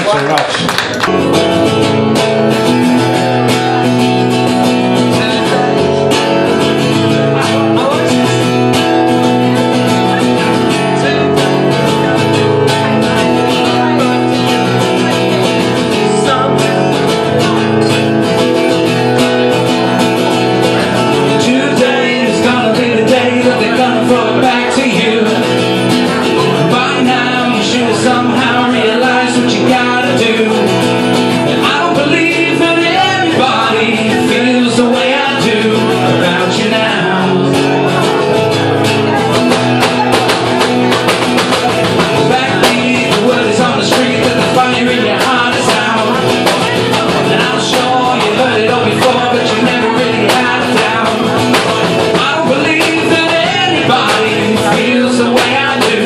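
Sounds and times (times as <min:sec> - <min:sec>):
guitar strumming: 0:00.0 - 0:56.0
man singing into a microphone: 0:01.6 - 0:56.0.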